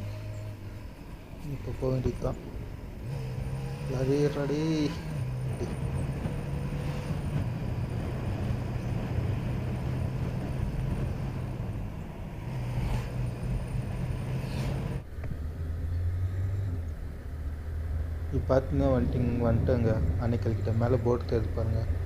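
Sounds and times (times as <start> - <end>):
motorcycle engine cruising: 0.0 - 18.4
wind and road noise: 0.0 - 22.0.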